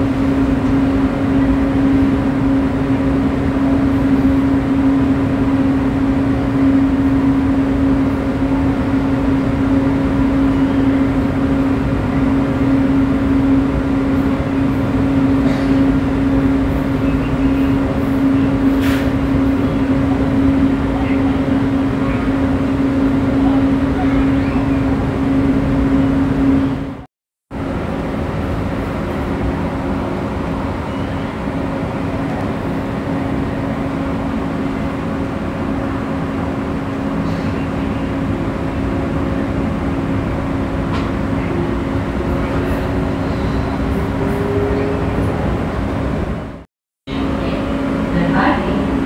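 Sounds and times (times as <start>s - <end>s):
metro train running: 0.0s - 49.0s.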